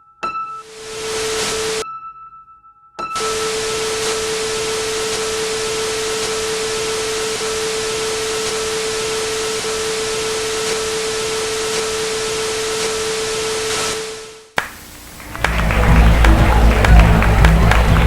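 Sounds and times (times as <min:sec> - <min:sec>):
white noise hiss: 0:03.2 - 0:18.0.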